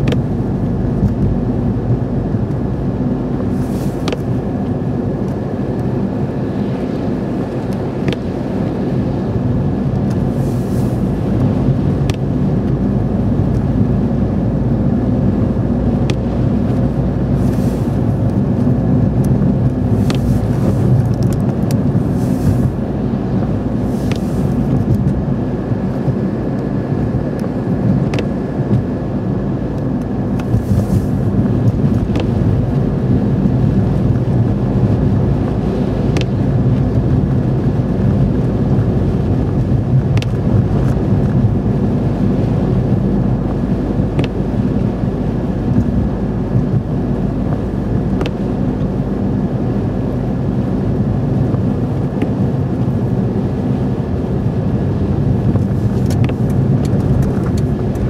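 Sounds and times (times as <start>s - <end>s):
engine and tyre drone: 0.0s - 58.0s.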